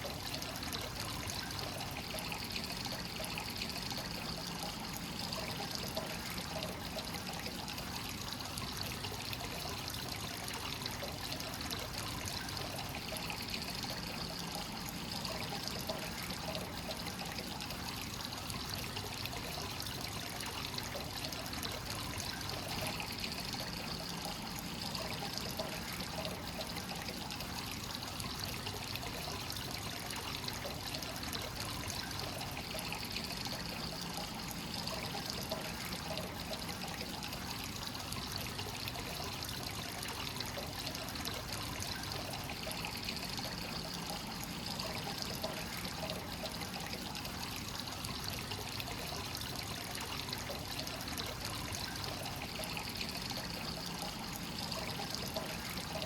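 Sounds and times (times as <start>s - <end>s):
water pouring into a bath: 0.0s - 56.0s.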